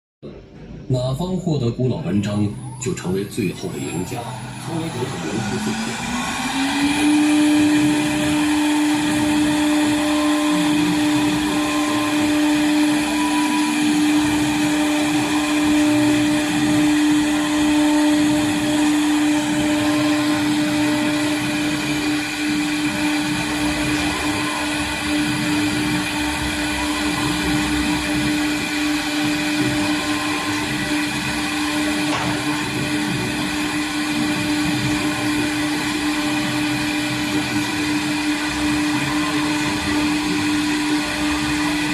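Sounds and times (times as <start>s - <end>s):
router spindle whining: 2.1s - 41.9s.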